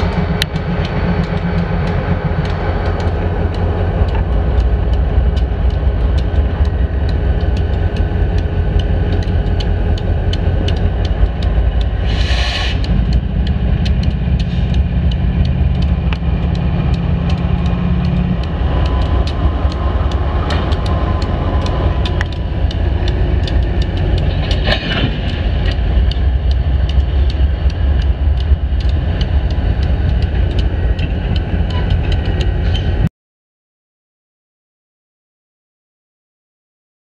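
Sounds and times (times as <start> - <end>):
locomotive engines rumbling: 0.0 - 33.1
steady engine hum: 0.0 - 33.1
wheels clicking and clanking: 0.0 - 33.1.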